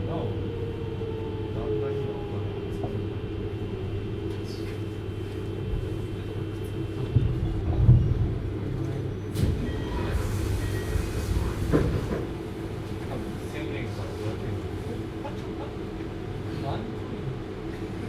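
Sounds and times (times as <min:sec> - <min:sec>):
train cabin rumble: 0:02.0 - 0:18.0.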